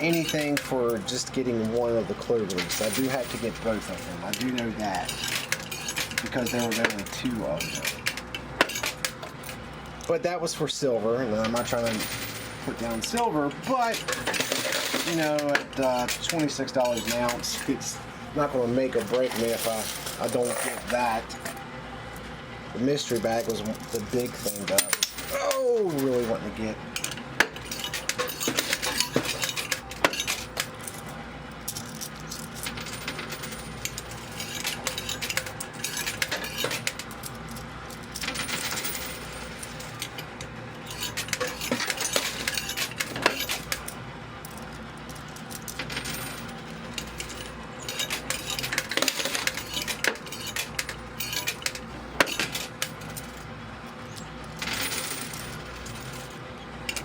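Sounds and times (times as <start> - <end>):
coins clinking and clattering: 0.0 - 10.2, 11.3 - 21.6, 23.0 - 57.0
faint machine hum: 0.0 - 57.0.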